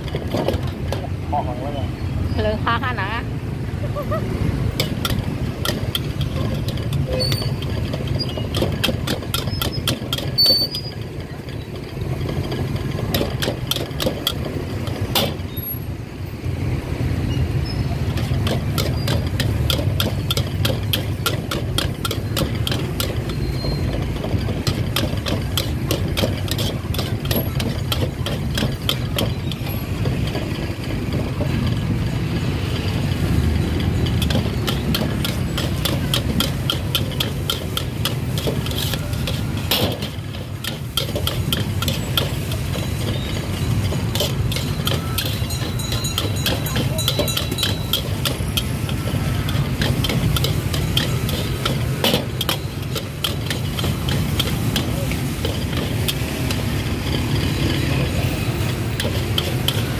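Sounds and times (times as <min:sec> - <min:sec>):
gas burner rumble: 0:00.0 - 0:59.9
ladle scraping a steel wok: 0:04.7 - 0:15.5, 0:17.5 - 0:59.9.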